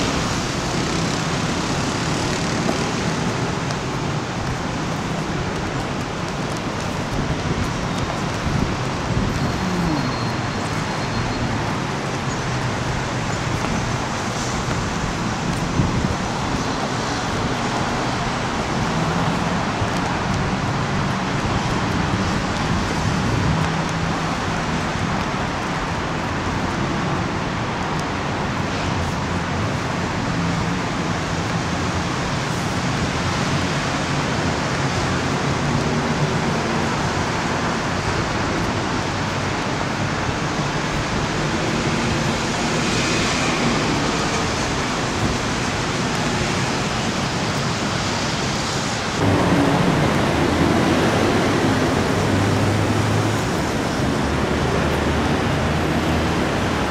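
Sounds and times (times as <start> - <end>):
road traffic noise: 0.0 - 56.9
wind: 0.0 - 56.9.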